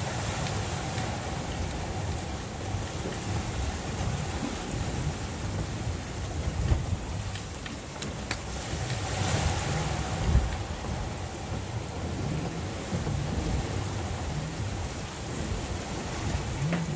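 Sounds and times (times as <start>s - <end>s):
breaking waves rushing: 0.0s - 16.9s
wind buffeting microphone: 0.0s - 16.9s.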